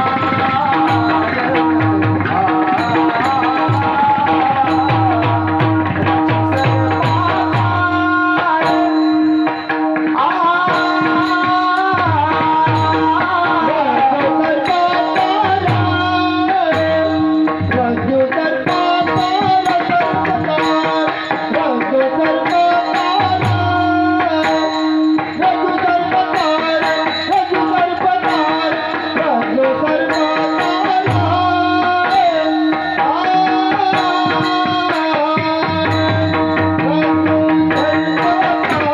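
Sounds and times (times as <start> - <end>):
hand drum rhythm: 0.0 - 38.9
high percussion strokes: 0.0 - 38.9.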